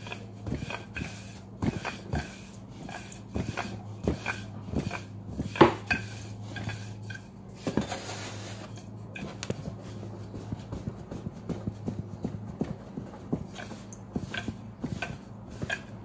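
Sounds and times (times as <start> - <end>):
rolling pin knocking on dough: 0.0 - 7.1, 9.2 - 16.0.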